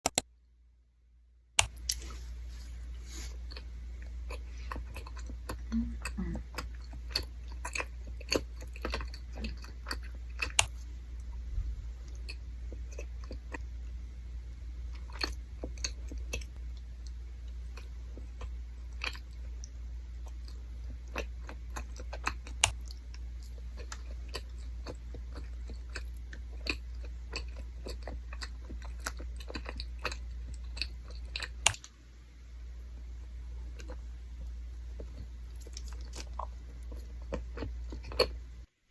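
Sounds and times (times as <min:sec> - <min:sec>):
chewing rice cake: 0:01.7 - 0:31.9, 0:32.7 - 0:38.7.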